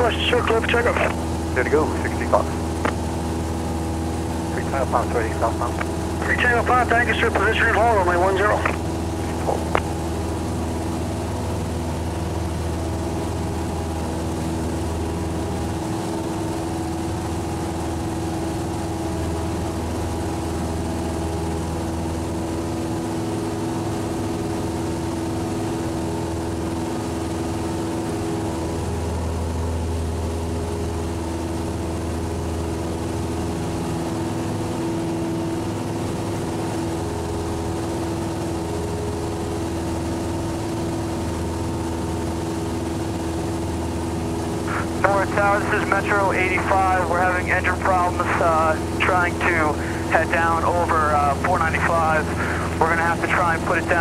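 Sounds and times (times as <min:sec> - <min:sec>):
plane engine and propeller drone: 0:00.0 - 0:54.0.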